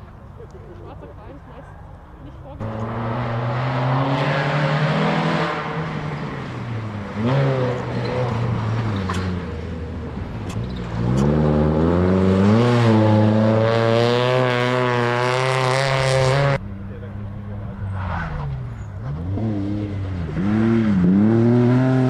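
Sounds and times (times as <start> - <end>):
rally car engine accelerating: 2.6 - 22.0.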